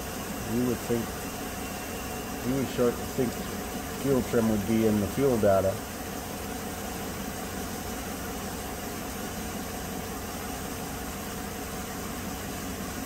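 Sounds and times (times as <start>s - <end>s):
steady hiss: 0.0s - 13.0s
truck engine idling: 0.0s - 13.0s.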